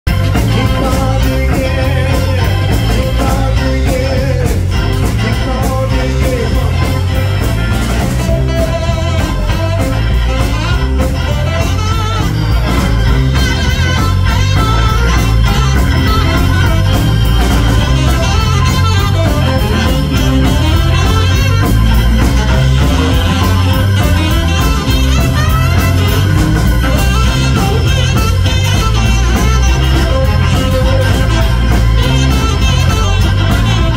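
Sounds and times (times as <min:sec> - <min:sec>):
blues band playing: 0:00.0 - 0:33.9.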